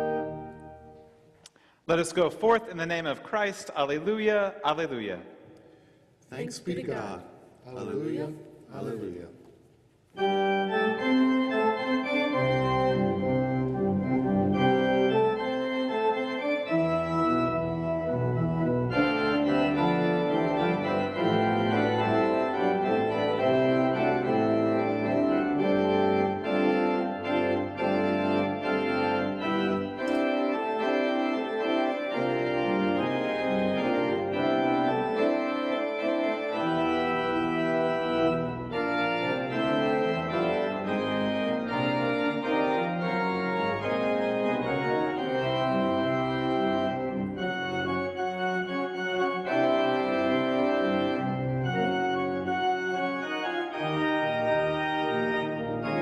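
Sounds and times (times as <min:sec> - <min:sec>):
church pipe organ chords: 0:00.0 - 0:01.2, 0:10.2 - 0:56.0.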